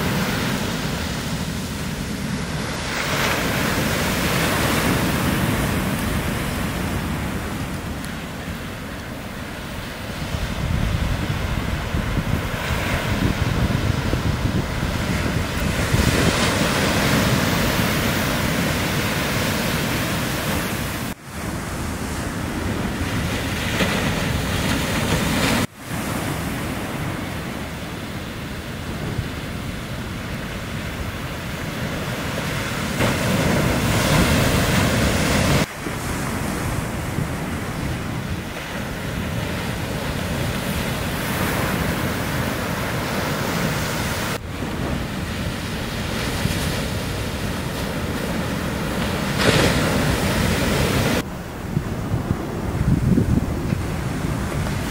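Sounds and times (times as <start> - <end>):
waves breaking in surf: 0.0 - 54.9.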